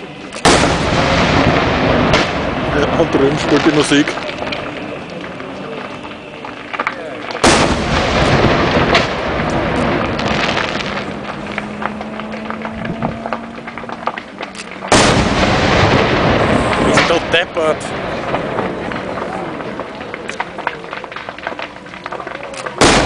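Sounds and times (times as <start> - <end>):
loud firework bangs: 0.4 - 23.0
small firework pops: 3.5 - 23.0.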